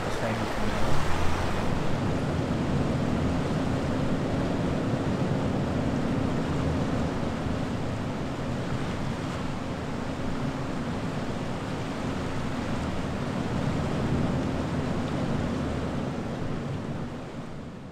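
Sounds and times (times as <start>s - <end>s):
low engine hum: 0.0s - 17.4s
road and wind noise: 0.0s - 17.9s.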